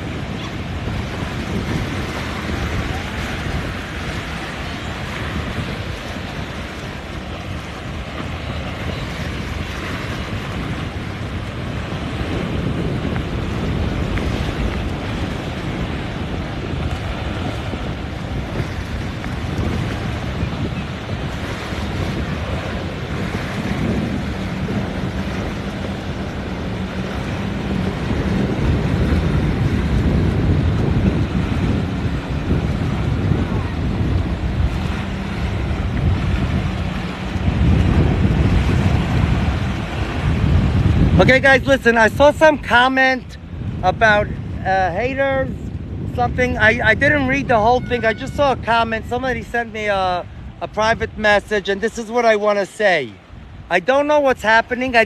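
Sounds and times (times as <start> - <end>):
motorboat engine hum: 0.0 - 55.0
waves and surf: 0.0 - 55.0
wind buffeting microphone: 0.0 - 55.0.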